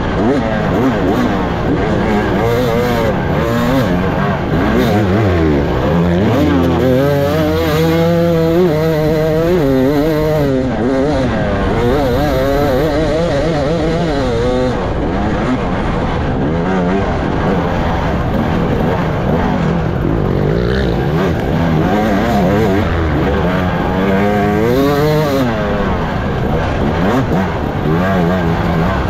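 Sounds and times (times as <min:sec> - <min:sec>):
dirt bike engine racing: 0:00.0 - 0:29.0.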